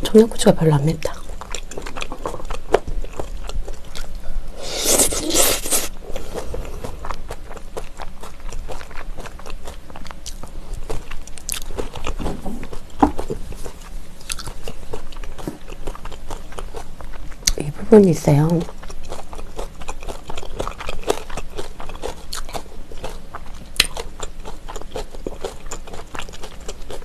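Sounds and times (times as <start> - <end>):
crunchy chewing with mouth clicks: 1.0 - 27.0.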